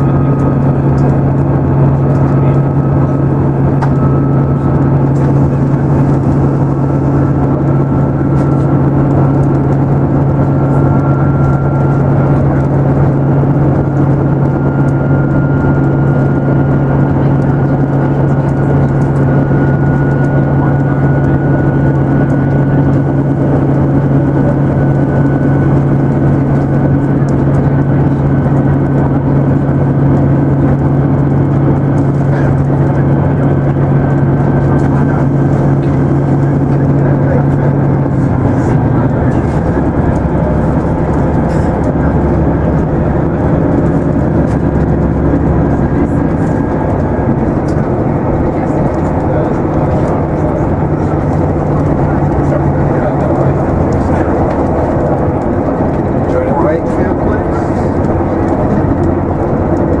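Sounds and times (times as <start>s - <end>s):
train diesel engine drone: 0.0s - 60.0s.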